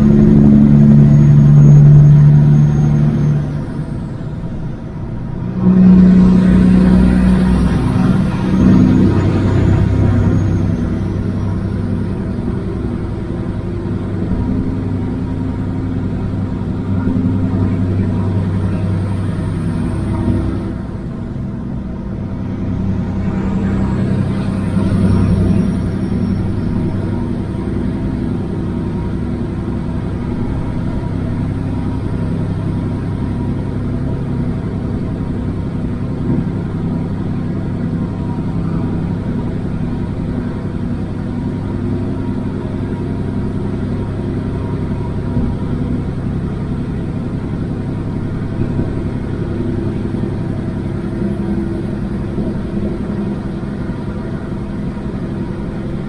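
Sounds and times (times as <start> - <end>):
faint high whine: 0.0 - 56.0
road rumble: 0.0 - 56.0
truck diesel engine running: 0.0 - 56.0.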